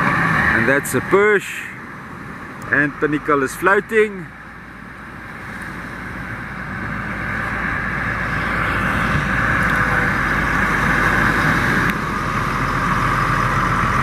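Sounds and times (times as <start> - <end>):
outboard motors running: 0.0 - 14.0.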